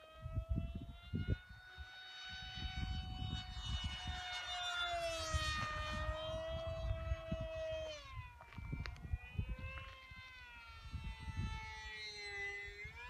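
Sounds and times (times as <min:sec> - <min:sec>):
model plane motor whining: 0:00.0 - 0:13.0
wind rumbling on microphone: 0:00.0 - 0:13.0.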